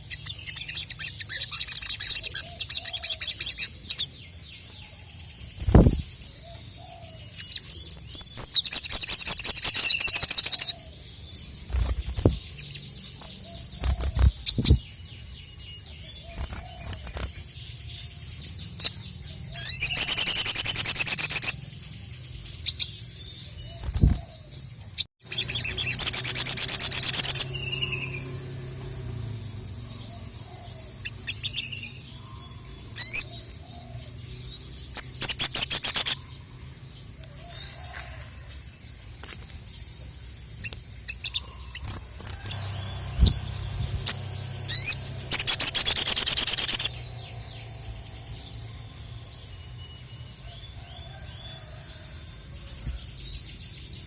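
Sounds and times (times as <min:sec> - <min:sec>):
songbird trilling: 0:00.0 - 0:24.5, 0:25.2 - 0:36.6, 0:39.8 - 0:52.1
bird chirps: 0:00.0 - 0:54.0.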